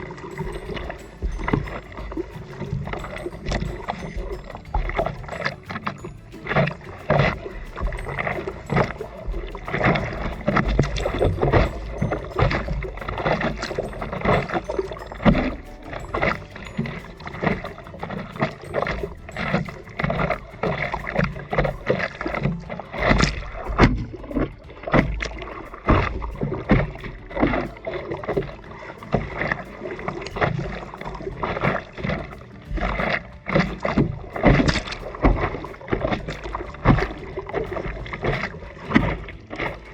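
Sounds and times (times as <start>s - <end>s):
water splashing: 0.0s - 39.9s.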